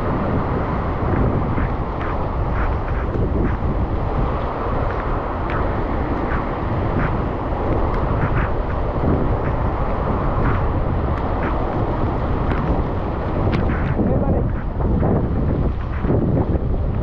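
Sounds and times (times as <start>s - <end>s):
heavy rain: 0.0s - 17.0s
wind and road noise: 0.0s - 17.0s.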